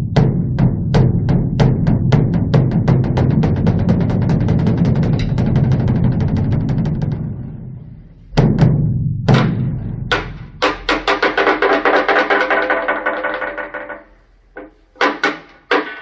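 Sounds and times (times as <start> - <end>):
large drum beaten with sticks: 0.0 - 13.3.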